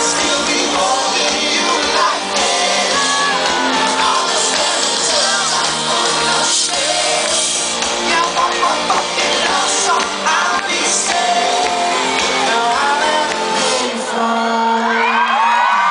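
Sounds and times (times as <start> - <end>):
rock or pop song with singing: 0.0 - 15.9.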